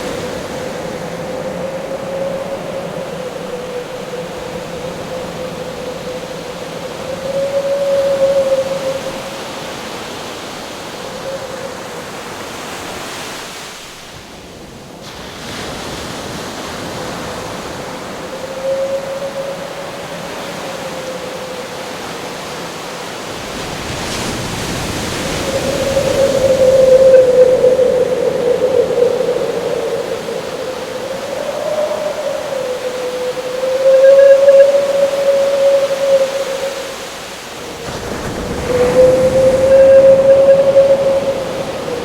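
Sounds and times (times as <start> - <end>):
wind howling: 0.0 - 13.1, 14.5 - 42.0
waves rushing: 0.0 - 42.0.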